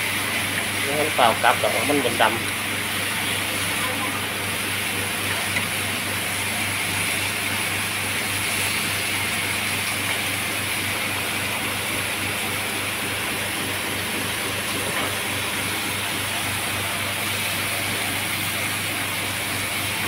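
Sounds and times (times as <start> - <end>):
meat sizzling in a grill pan: 0.0 - 20.0.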